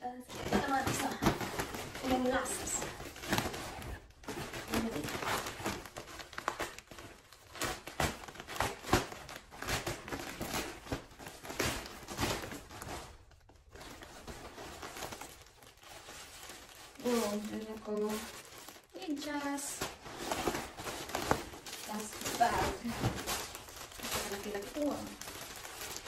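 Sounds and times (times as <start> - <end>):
plastic bag crinkling: 0.0 - 26.0.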